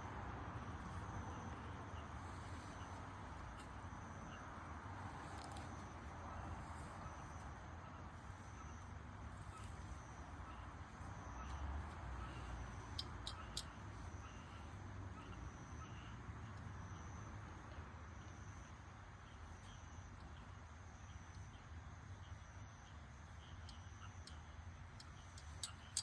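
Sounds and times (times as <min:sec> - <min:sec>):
insects chirping: 0:00.1 - 0:26.0.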